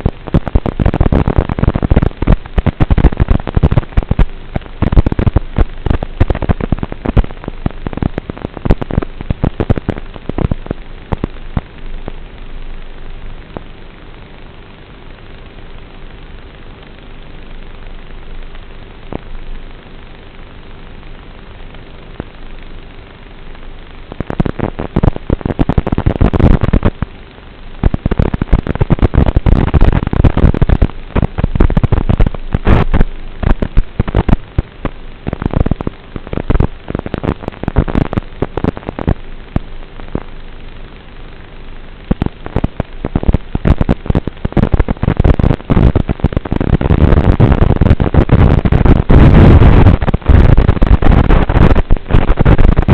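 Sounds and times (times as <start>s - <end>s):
distorted crackling and surging noise: 0.0s - 52.9s.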